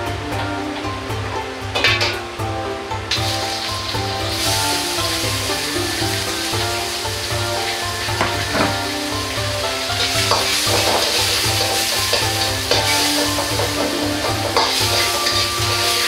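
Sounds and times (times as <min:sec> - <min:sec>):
background music with steady beat: 0:00.0 - 0:16.0
food sizzling in hot oil: 0:01.0 - 0:16.0
metal ladle scraping a wok: 0:03.1 - 0:16.0.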